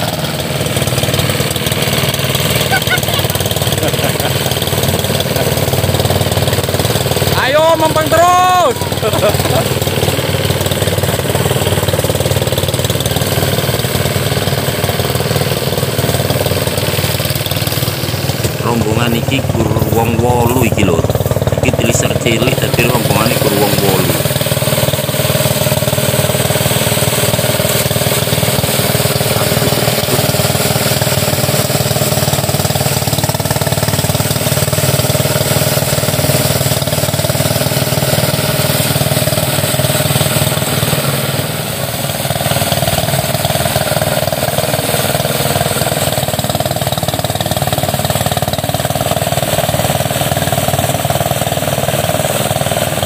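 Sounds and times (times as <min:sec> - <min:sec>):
rice thresher engine running: 0:00.0 - 0:53.0.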